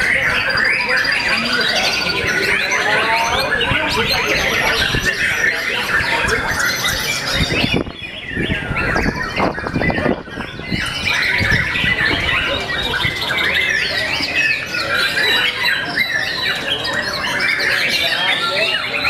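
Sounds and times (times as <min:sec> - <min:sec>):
birds singing: 0:00.0 - 0:19.0.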